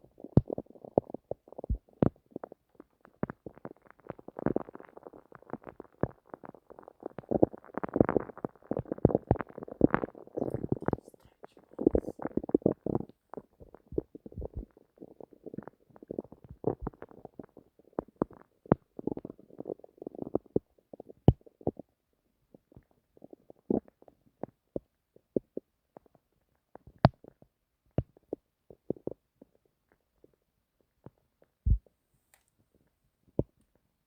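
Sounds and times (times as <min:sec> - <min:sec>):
stomach rumbling and gurgling: 0:00.0 - 0:31.9, 0:32.7 - 0:33.9.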